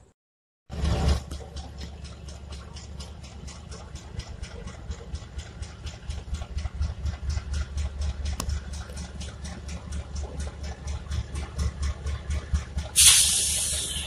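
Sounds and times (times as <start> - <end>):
diesel locomotive engine running: 0.7 - 14.0.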